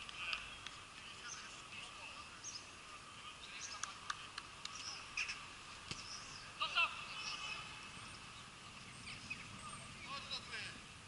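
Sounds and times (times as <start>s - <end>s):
birds chirping: 0.0s - 10.9s
distant voices calling: 0.0s - 11.0s.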